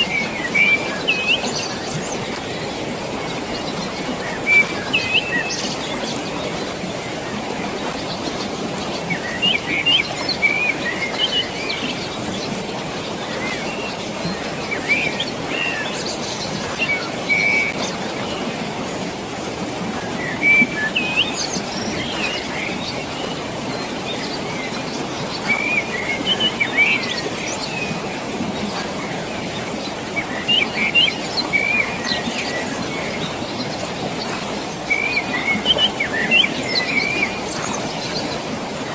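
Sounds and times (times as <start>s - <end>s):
birds chirping: 0.0s - 38.9s
flowing water rushing: 0.0s - 38.9s.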